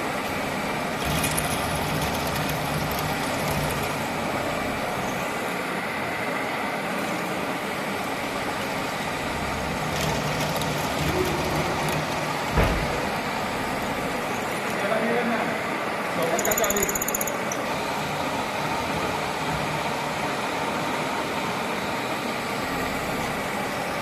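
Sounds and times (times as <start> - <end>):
drilling machine humming: 0.0 - 6.0, 7.7 - 14.8, 15.4 - 24.0.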